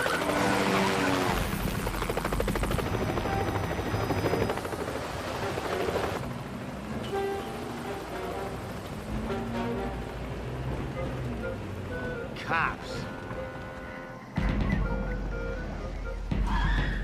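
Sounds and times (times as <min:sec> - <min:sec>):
helicopter rotor chopping: 0:00.0 - 0:15.0
sustained film score notes: 0:00.0 - 0:17.0.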